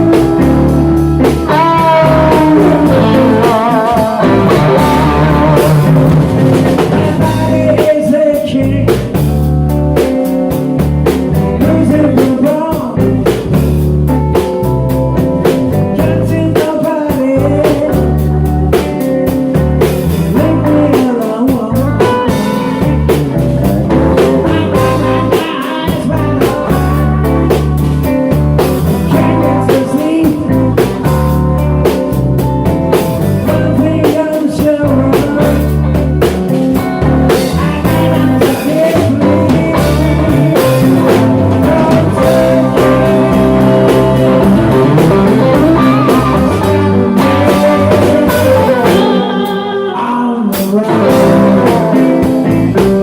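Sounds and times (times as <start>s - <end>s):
person singing: 0.0s - 9.4s, 10.0s - 13.7s, 15.7s - 19.2s, 20.0s - 32.1s, 32.9s - 53.0s
bass guitar: 0.0s - 53.0s
drum kit beat: 0.0s - 53.0s
electric guitar: 0.0s - 53.0s.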